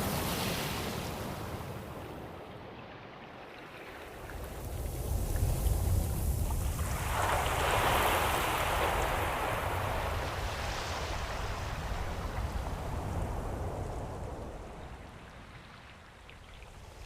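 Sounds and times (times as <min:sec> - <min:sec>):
low rumble of sea: 0:00.0 - 0:17.0.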